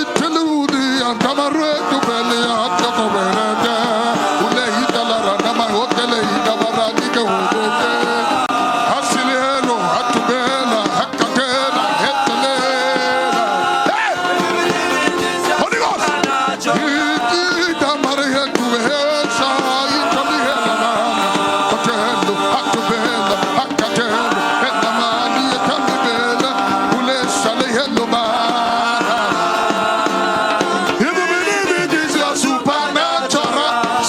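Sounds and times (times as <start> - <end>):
drum percussion: 0.0 - 34.0
gospel worship music: 0.0 - 34.0.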